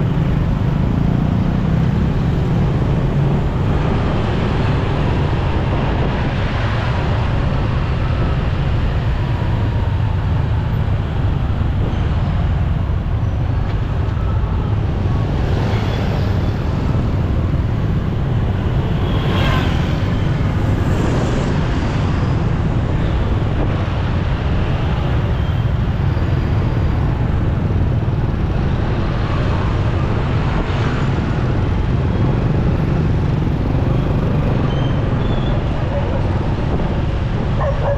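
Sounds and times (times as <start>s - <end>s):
road and wind noise: 0.0s - 37.9s
vehicles passing: 0.0s - 37.9s.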